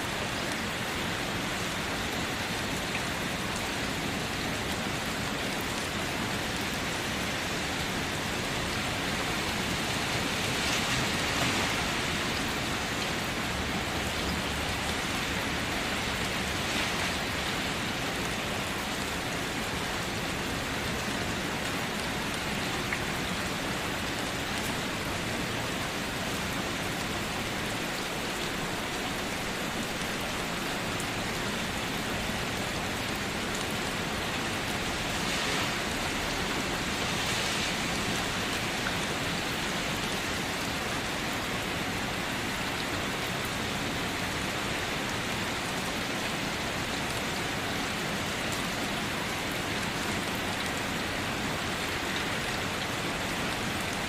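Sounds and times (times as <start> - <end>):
rain pattering on a surface: 0.0 - 54.0.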